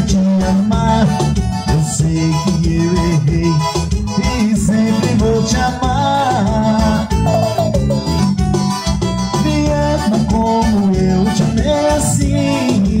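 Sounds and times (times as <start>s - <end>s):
live band pop song: 0.0s - 13.0s.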